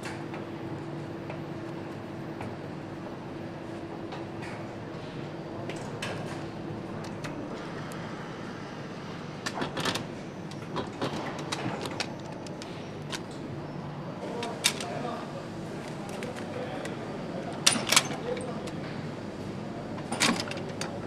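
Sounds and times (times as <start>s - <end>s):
machinery hum: 0.0s - 21.0s.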